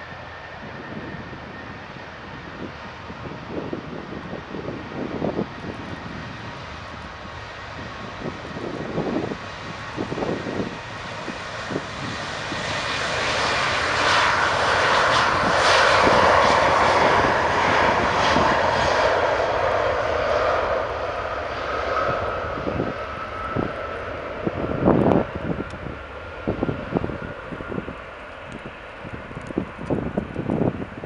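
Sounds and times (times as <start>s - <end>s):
jet engines roaring at takeoff: 0.0s - 31.0s.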